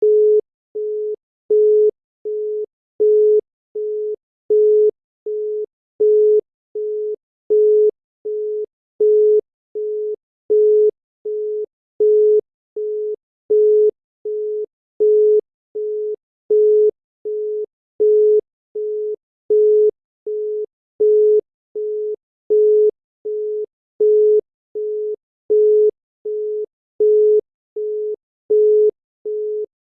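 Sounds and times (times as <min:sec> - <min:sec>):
telephone congestion tone beeping: 0:00.0 - 0:19.9, 0:20.6 - 0:29.7.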